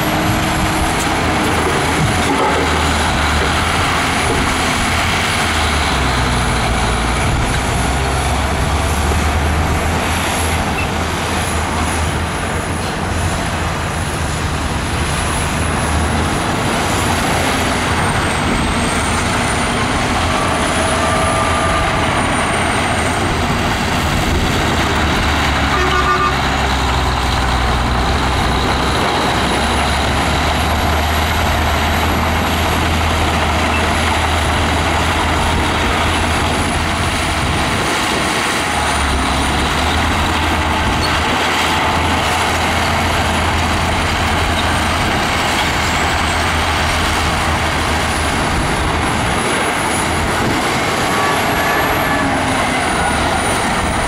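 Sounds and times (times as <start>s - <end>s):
bulldozer diesel engine rumbling: 0.0s - 54.0s
dump truck engines running: 0.0s - 54.0s.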